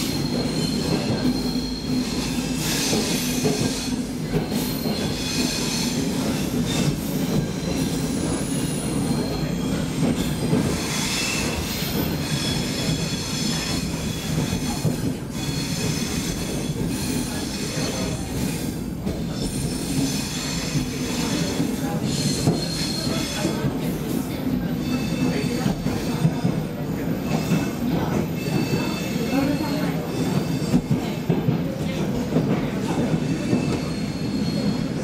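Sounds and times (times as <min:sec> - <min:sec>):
subway train wheels rumbling on rail: 0:00.0 - 0:35.0.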